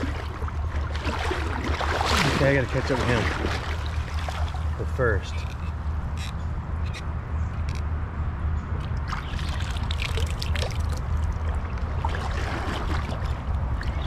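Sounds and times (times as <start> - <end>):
creek water trickling and splashing: 0.0 - 6.3, 8.8 - 14.0
steady low rumble: 0.0 - 14.0.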